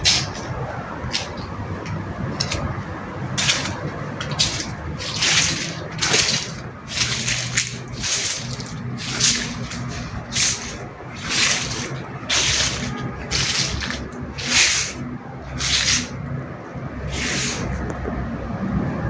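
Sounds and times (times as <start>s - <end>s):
water splashing and gurgling: 0.0s - 18.0s.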